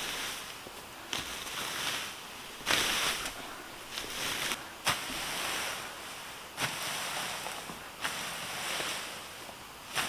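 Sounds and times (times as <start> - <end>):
hay fork swishing through grass: 0.0 - 10.0.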